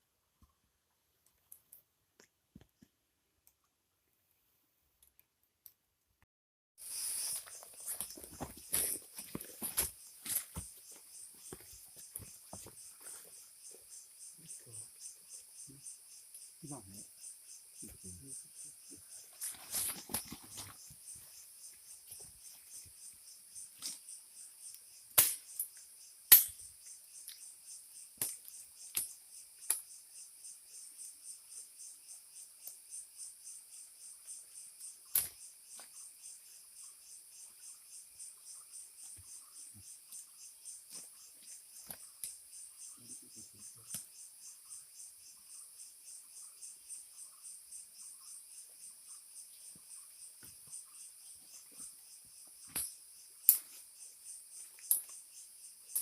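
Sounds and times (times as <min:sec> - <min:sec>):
insects trilling: 0:06.8 - 0:56.0.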